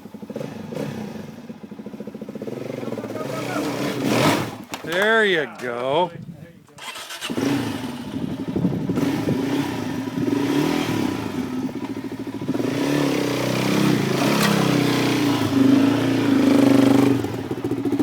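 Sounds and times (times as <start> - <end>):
dirt bike engine revving: 0.1 - 5.7, 6.8 - 18.0.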